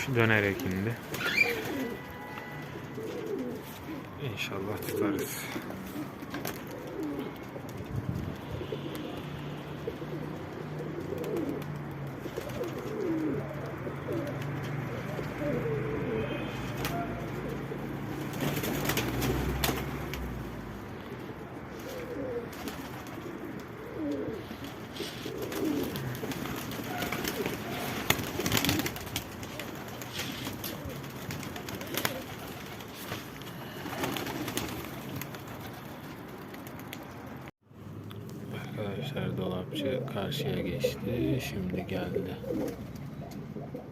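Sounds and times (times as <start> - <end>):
pigeons cooing: 0.1 - 35.8, 39.0 - 43.9.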